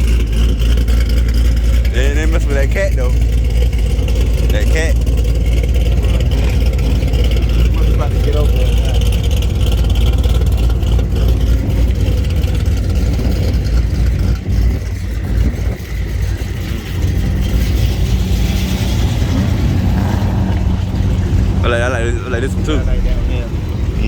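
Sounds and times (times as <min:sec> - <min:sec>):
car engines running: 0:00.0 - 0:24.0.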